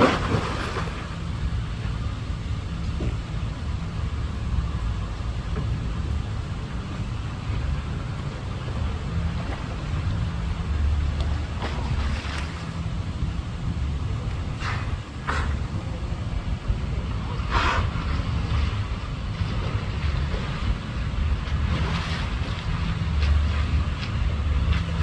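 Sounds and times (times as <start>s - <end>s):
low rumble: 0.0s - 25.0s
noisy hiss: 0.0s - 25.0s.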